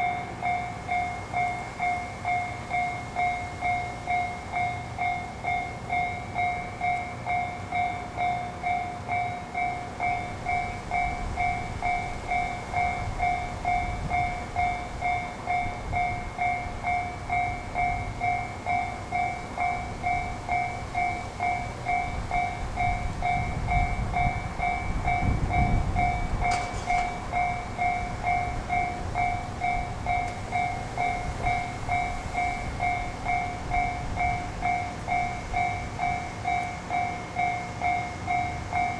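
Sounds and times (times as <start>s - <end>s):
diesel railcar rumble: 0.0s - 38.9s.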